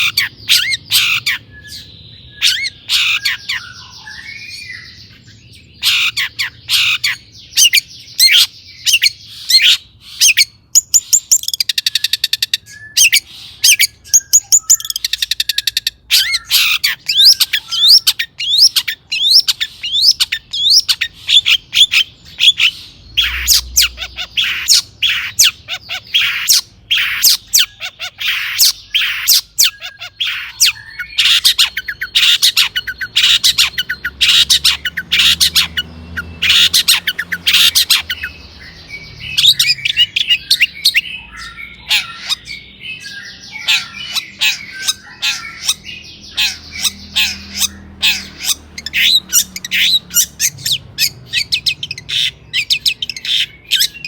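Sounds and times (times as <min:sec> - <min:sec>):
shrike singing harsh calls: 0:00.0 - 0:54.0.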